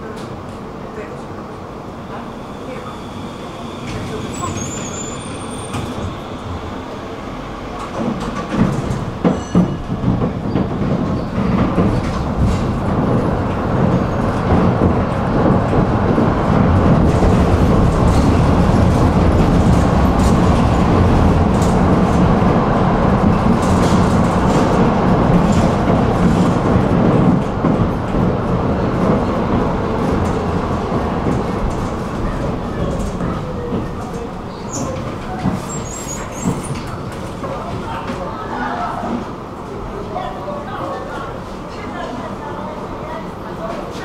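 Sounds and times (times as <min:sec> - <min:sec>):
tram wheels rumbling on rails: 0:00.0 - 0:44.0.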